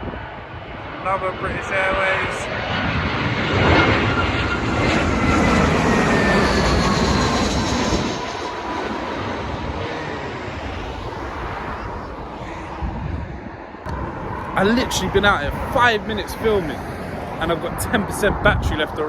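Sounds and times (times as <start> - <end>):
jet airliner passing: 0.0 - 19.0.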